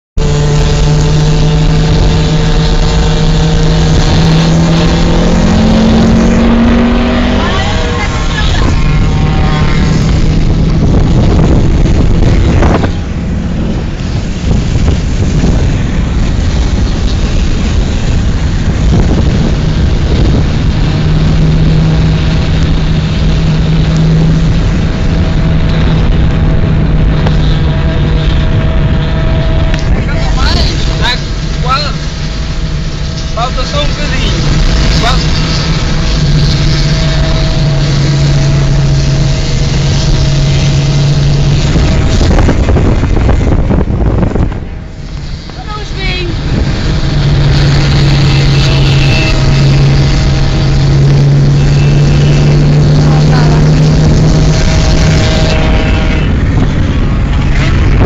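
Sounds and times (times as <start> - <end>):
car engine: 0.0 - 58.0
two-stroke motorcycles running hard: 0.0 - 58.0.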